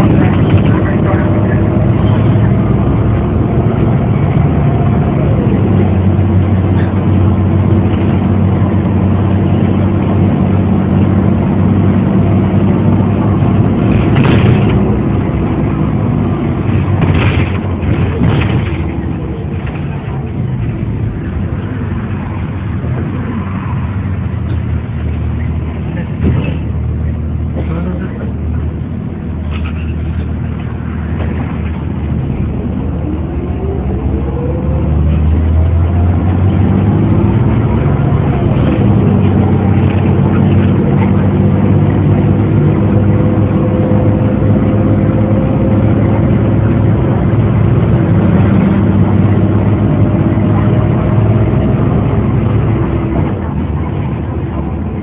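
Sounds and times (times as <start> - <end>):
bus engine drone: 0.0 - 55.0
rising engine whine: 0.0 - 55.0.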